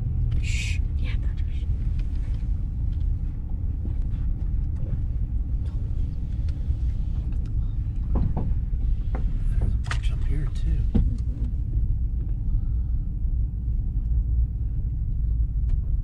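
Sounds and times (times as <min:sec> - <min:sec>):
car rumbling on wet road: 0:00.0 - 0:16.0.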